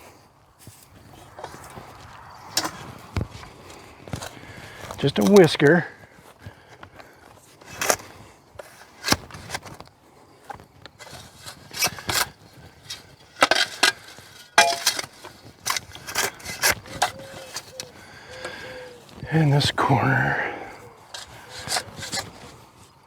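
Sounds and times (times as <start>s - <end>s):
tool digging in muddy soil: 0.7s - 5.5s, 7.6s - 9.8s, 10.4s - 20.3s, 21.1s - 22.9s.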